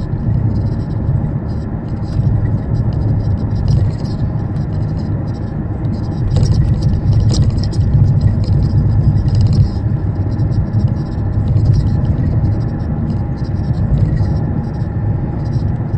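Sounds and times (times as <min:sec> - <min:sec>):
car engine low rumble: 0:00.0 - 0:15.9.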